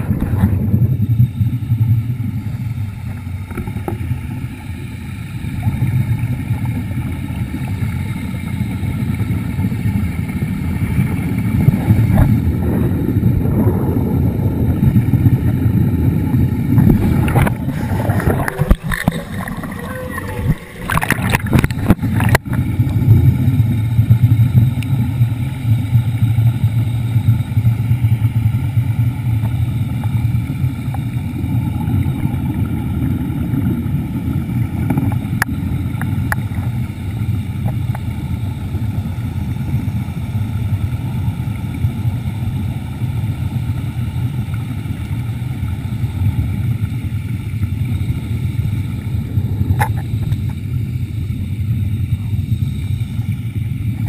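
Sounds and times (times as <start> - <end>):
underwater scooter running: 0.0 - 54.0.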